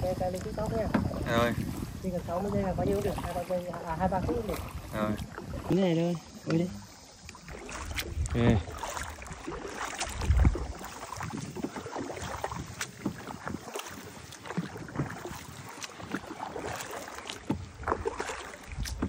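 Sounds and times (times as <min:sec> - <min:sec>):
wind on microphone: 0:00.0 - 0:05.7, 0:07.4 - 0:16.7, 0:17.4 - 0:19.0
paddle splashing in water: 0:00.0 - 0:19.0.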